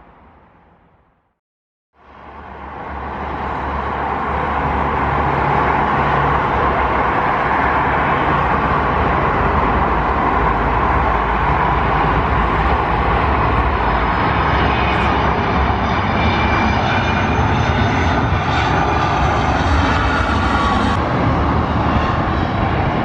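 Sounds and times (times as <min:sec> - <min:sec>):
jet engines roaring: 0:02.1 - 0:23.0.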